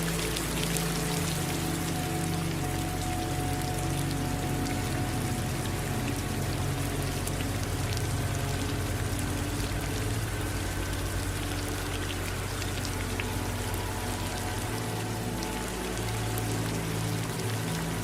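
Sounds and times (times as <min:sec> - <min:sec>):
low steady hum: 0:00.0 - 0:18.0
steady rain falling: 0:00.0 - 0:18.0.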